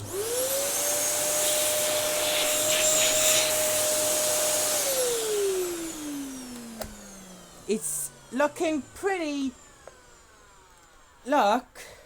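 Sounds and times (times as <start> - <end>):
vacuum cleaner motor whine: 0.0 - 11.9.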